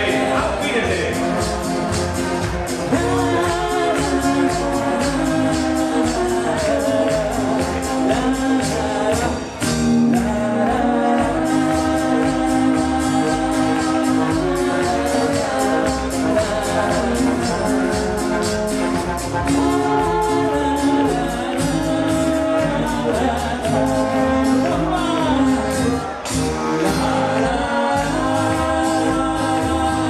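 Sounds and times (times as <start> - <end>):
brass band playing: 0.0 - 30.0
voices singing along: 0.0 - 30.0.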